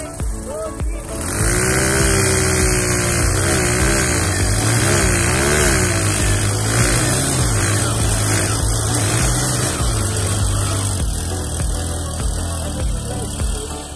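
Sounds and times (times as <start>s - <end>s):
motorcycle engines revving: 0.0s - 13.9s.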